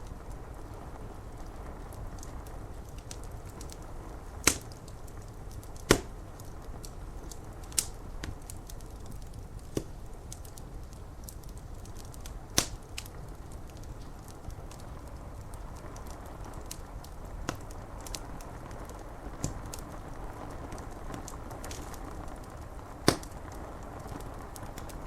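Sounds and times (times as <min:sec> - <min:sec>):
rain on window glass: 0:00.0 - 0:25.0
sharp pops of fire: 0:00.0 - 0:25.0
wood fire crackling: 0:00.0 - 0:25.0.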